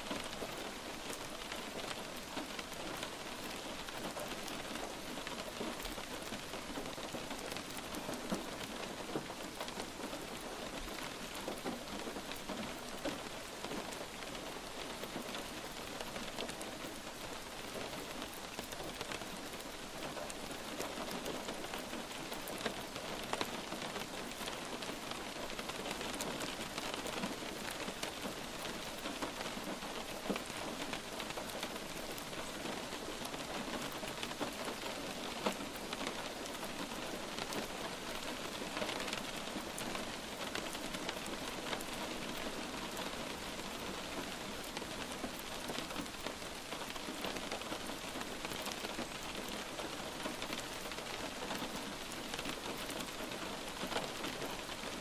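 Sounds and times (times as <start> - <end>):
light rain on a hard surface: 0.0 - 55.0.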